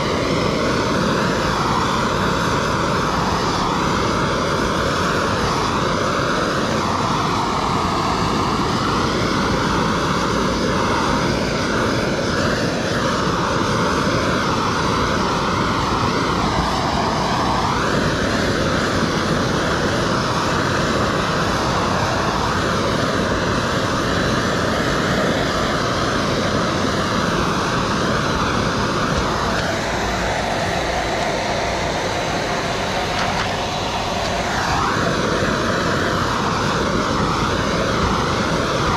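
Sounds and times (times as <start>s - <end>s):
gas torch roaring: 0.0s - 38.9s.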